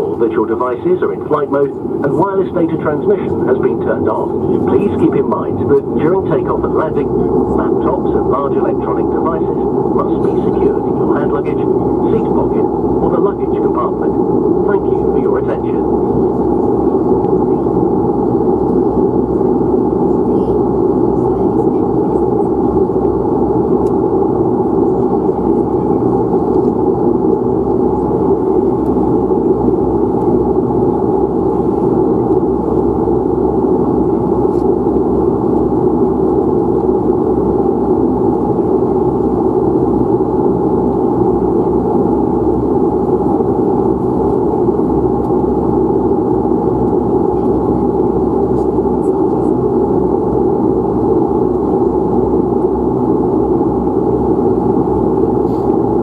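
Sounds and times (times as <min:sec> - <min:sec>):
turboprop engine idling drone: 0:00.0 - 0:56.0.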